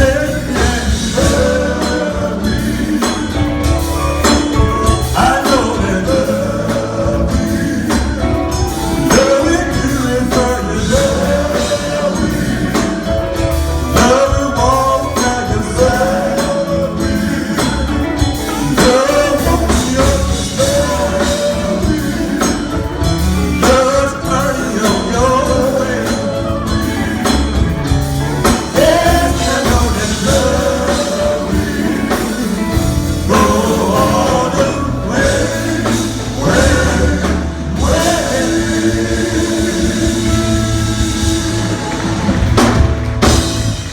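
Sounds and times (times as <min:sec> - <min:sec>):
band with steady beat and bass: 0:00.0 - 0:43.9
gospel group singing: 0:00.0 - 0:43.9.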